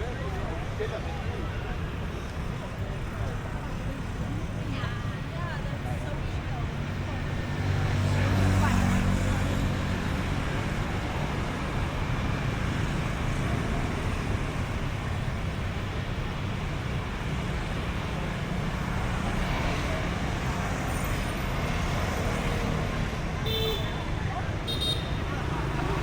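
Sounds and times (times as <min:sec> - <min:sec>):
street traffic passing: 0:00.0 - 0:26.0.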